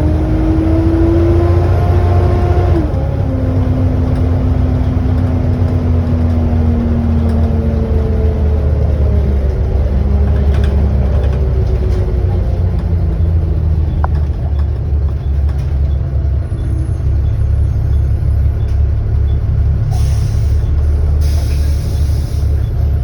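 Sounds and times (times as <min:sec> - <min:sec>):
bus engine drone with whine: 0:00.0 - 0:23.0.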